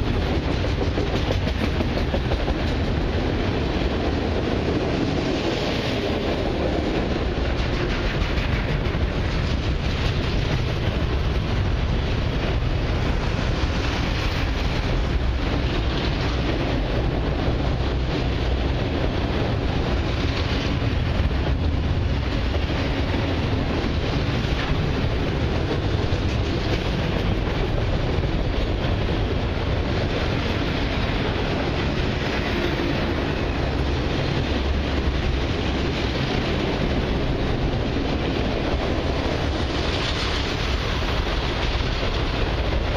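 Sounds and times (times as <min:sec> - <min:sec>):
steel wheels rumbling on rails: 0:00.0 - 0:42.9.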